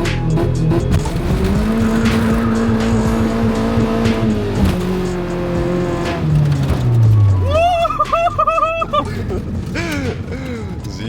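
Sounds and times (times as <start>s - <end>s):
car engine revving hard: 0.0s - 10.7s
music: 0.0s - 11.0s.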